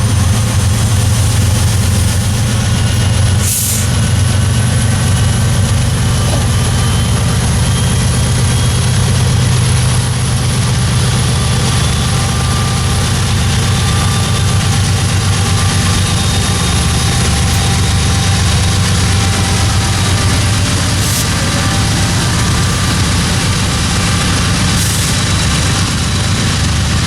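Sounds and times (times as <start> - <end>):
diesel locomotives droning: 0.0 - 27.0
rail noise: 0.0 - 27.0.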